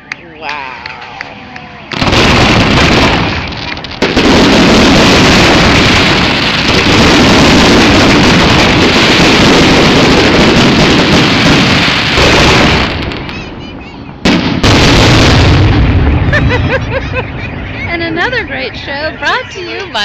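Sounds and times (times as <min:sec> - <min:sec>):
fireworks barrage: 0:01.9 - 0:20.0.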